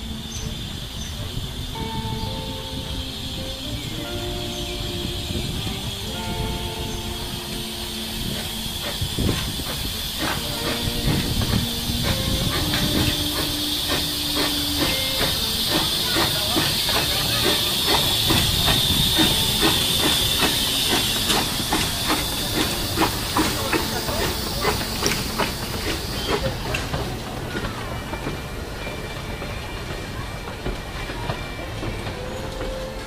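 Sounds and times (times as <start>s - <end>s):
rhythmic clicking of train wheels: 0.0s - 33.0s
steam hissing: 0.0s - 33.0s.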